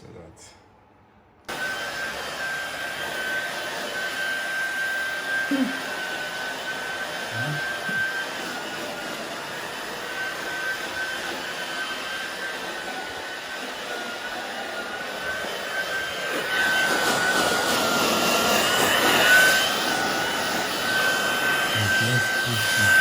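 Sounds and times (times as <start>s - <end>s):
hair dryer running: 1.5s - 23.0s.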